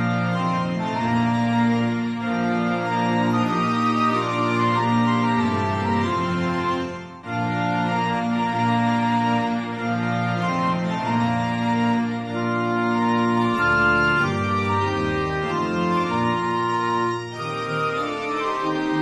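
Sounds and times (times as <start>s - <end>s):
held organ chords: 0.0s - 19.0s.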